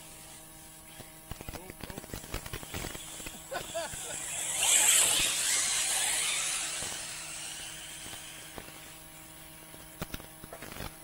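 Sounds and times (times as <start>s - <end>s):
electric motor whine: 2.0s - 11.0s.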